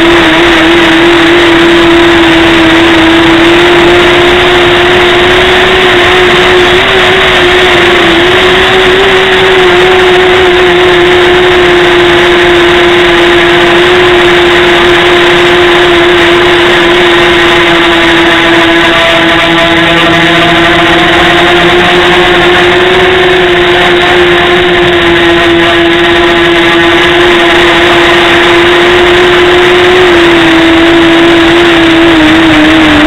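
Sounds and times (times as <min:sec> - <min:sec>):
drone motors whining: 0:00.0 - 0:33.0
low hum: 0:00.0 - 0:33.0.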